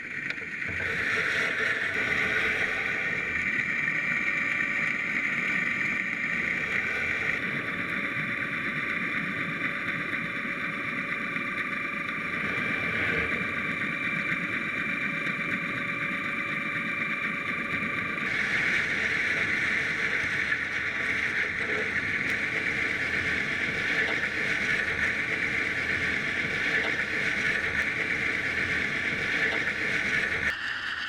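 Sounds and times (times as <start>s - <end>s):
motor drone with high whine: 0.0s - 31.0s.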